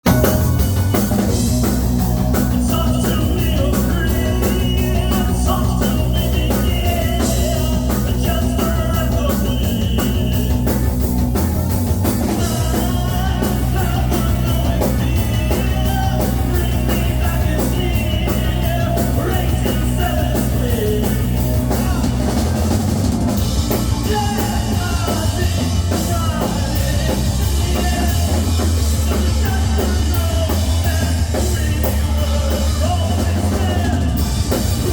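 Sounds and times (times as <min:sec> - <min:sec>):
drum kit beat: 0:00.0 - 0:34.9
rock band playing: 0:00.0 - 0:34.9
person singing: 0:01.6 - 0:10.8, 0:12.4 - 0:22.8, 0:23.7 - 0:34.9.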